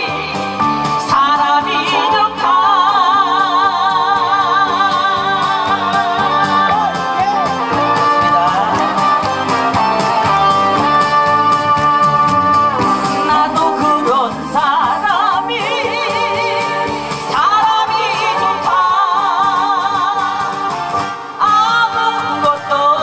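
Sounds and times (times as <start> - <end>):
woman singing into a microphone: 0.0 - 9.3, 10.8 - 23.0
loud backing track with beat: 0.0 - 23.0.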